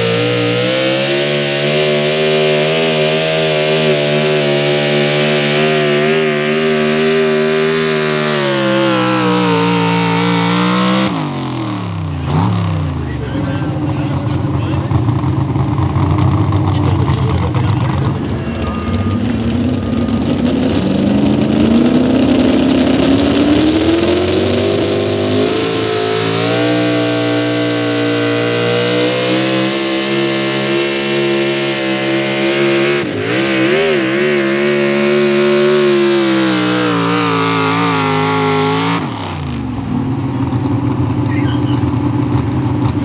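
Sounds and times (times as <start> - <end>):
truck engine at full throttle: 0.0 - 43.0.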